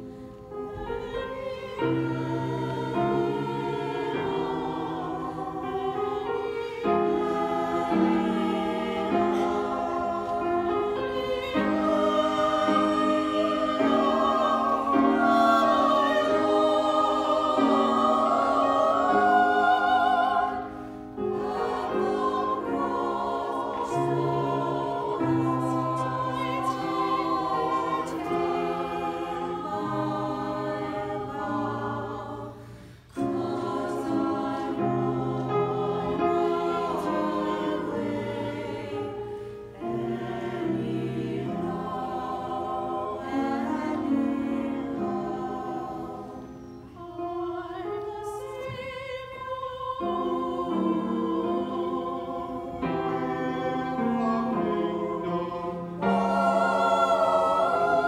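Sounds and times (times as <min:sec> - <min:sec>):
church choir singing: 0:00.0 - 0:58.0.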